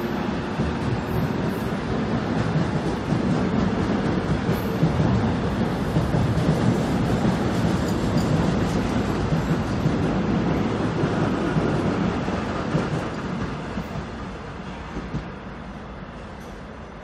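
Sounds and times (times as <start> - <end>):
sharp knocks of train: 0.0 - 15.4
train wheels rumbling on rails: 0.0 - 17.0.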